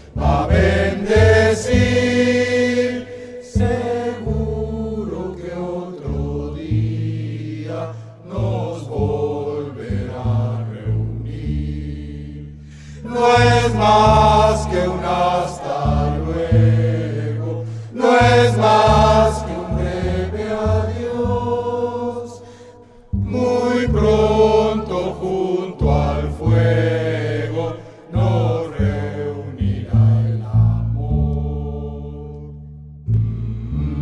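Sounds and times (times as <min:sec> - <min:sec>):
chorus singing: 0:00.0 - 0:34.0
string accompaniment: 0:00.0 - 0:34.0
bass line: 0:00.1 - 0:22.4, 0:23.1 - 0:34.0.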